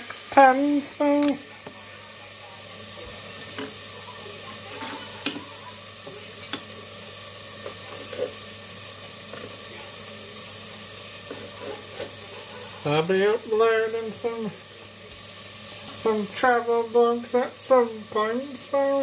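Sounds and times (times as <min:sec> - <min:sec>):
food sizzling in frying: 0:00.0 - 0:19.0.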